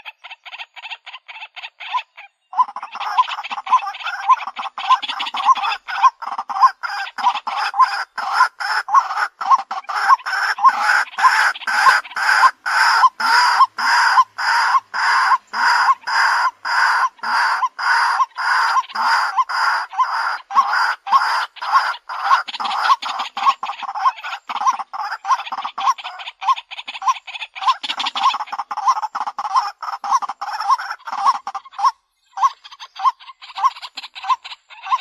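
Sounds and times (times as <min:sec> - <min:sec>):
waterhen harsh kwak calls: 0:00.0 - 0:35.0.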